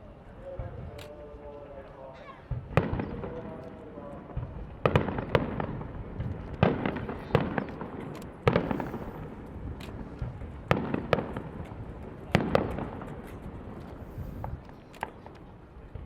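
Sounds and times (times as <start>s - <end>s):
fireworks bangs with rumbling echo: 0.4s - 1.8s, 2.4s - 16.0s.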